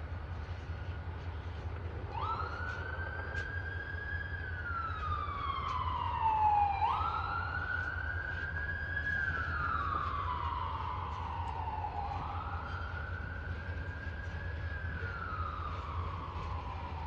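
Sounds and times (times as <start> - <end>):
steady low rumble: 0.0 - 17.0
siren wailing: 0.1 - 17.0.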